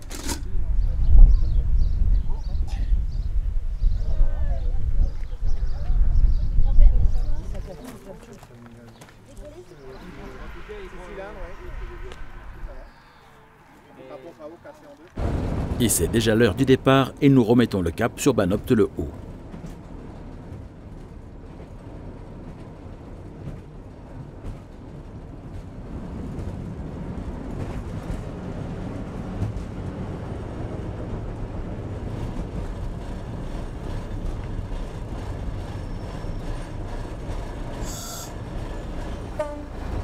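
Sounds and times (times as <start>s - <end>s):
diesel railcar engine running: 0.0s - 40.0s
train wheels on track: 0.0s - 40.0s.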